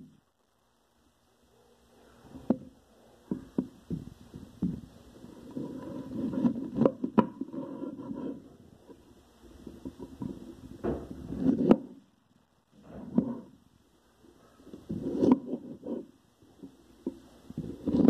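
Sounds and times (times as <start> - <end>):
rustling and scraping: 2.1 - 12.0, 12.8 - 13.6, 14.2 - 18.0.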